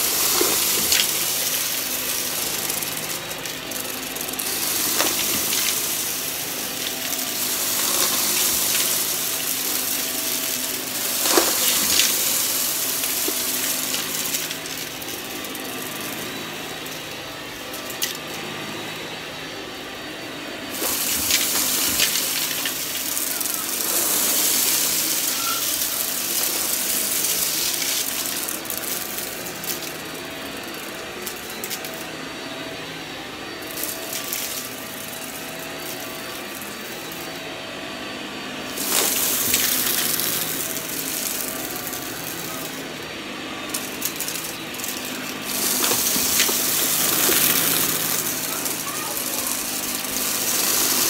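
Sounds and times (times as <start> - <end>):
debris rattling in vacuum: 0.0 - 19.0, 20.7 - 32.6, 33.5 - 37.6, 38.6 - 51.0
vacuum cleaner running on carpet: 0.0 - 51.0.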